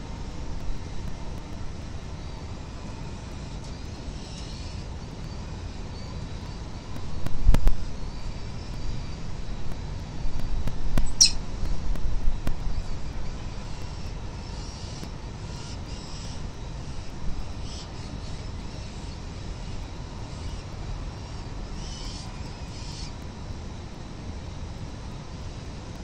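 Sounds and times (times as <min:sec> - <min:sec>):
city noise: 0:00.0 - 0:26.0.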